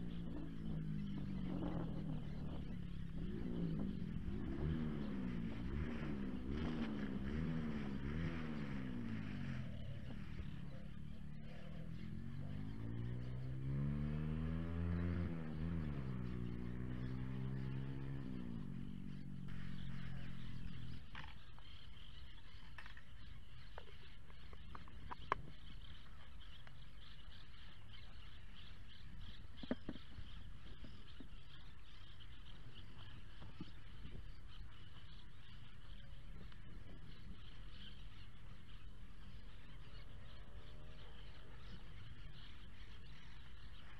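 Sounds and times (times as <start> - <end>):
motor engine humming: 0.0 - 43.9.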